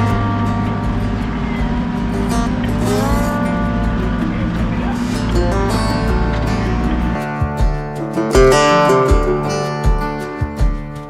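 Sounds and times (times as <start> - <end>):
car engine droning: 0.0 - 9.7
background music: 0.0 - 11.0.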